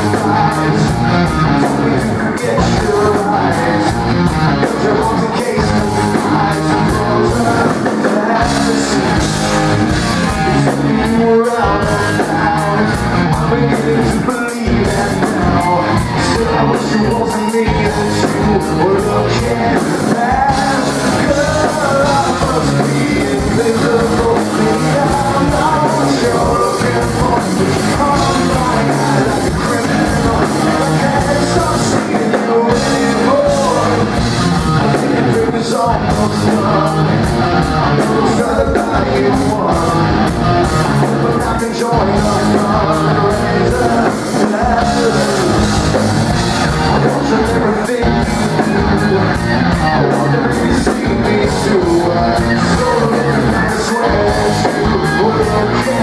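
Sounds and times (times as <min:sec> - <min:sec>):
distorted guitars: 0:00.0 - 0:56.0
drums: 0:00.0 - 0:56.0
live rock band playing: 0:00.0 - 0:56.0
person singing: 0:00.0 - 0:56.0.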